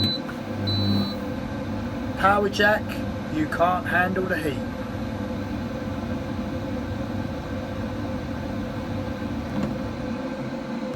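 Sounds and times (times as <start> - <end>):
machine hum with steady tone: 0.0 - 10.9.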